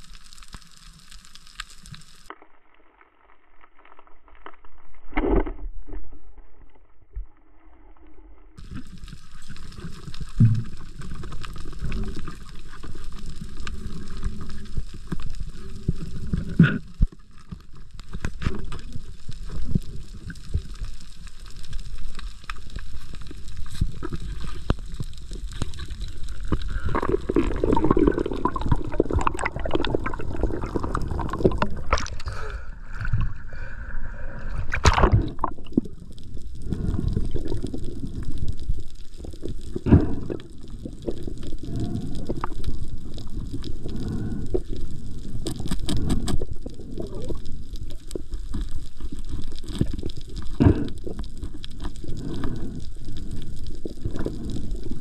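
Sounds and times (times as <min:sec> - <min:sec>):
muffled underwater rumble and gurgling: 0:00.0 - 0:55.0
water splashing and bubbling: 0:08.6 - 0:55.0.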